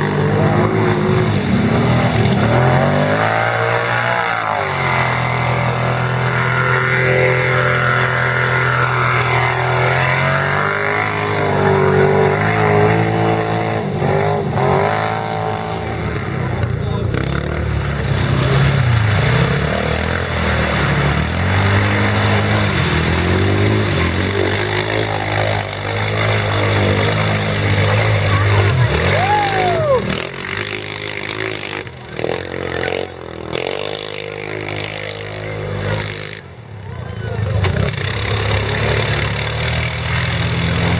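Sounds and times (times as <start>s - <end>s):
quad bike engines revving: 0.0s - 40.9s.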